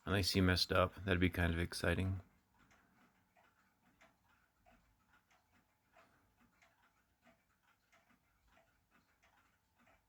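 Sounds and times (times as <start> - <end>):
faint regular ticking: 0.0 - 10.0.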